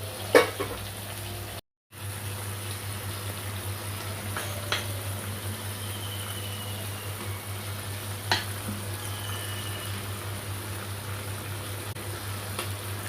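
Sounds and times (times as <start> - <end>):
curry sizzling in hot oil: 0.0 - 13.0.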